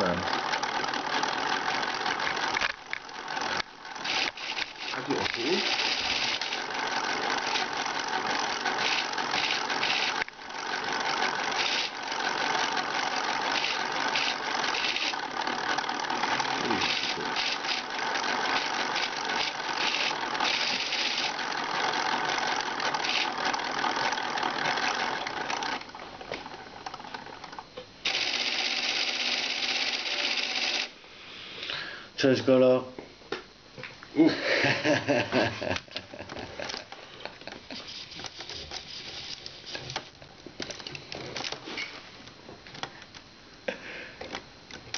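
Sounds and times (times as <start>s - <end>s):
electric motors and gears whirring: 0.0s - 31.1s, 35.6s - 44.9s.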